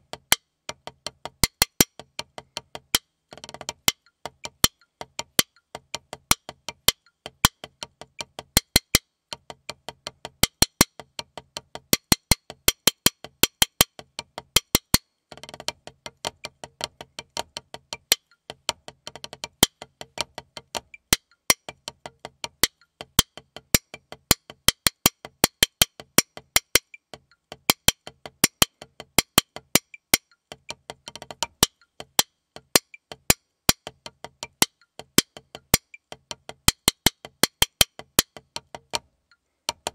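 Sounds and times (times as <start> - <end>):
drumsticks on practice pad: 0.0 - 39.9.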